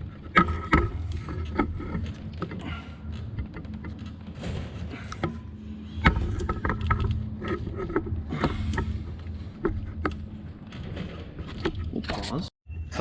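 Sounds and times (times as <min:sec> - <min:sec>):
clicks and knocks of parts: 0:00.0 - 0:12.2
steady low hum: 0:00.0 - 0:13.0.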